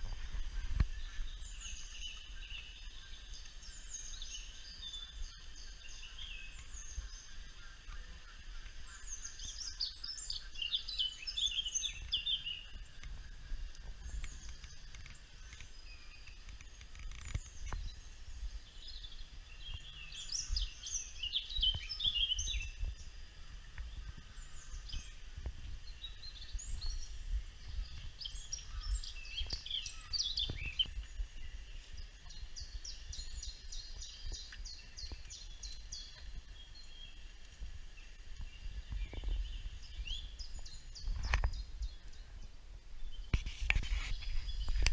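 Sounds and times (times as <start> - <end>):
small birds chirping and trilling: 0.0 - 44.9.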